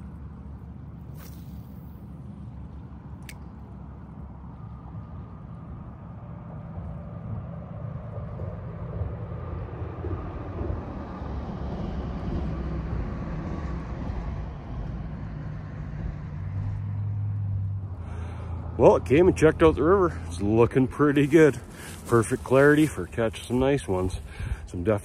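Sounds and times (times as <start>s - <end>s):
highway traffic rumble: 0.0s - 25.0s.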